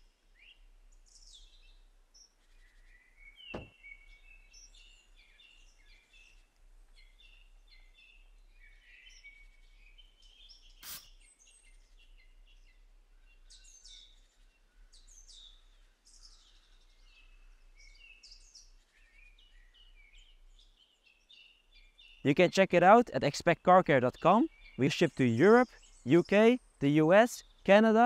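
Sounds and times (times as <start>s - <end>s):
small birds chirping and trilling: 0.2s - 22.7s, 23.3s - 28.0s.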